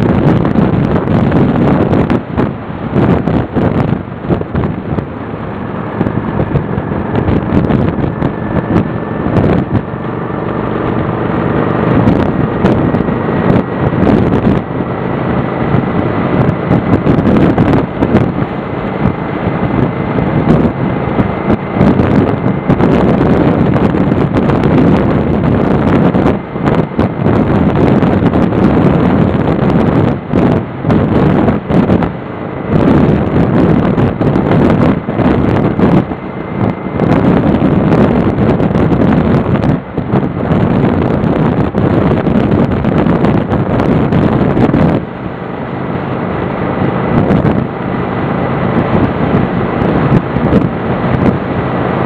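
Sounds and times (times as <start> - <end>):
motorcycle engine running: 0.0 - 52.0
wind buffeting on microphone: 0.0 - 52.0.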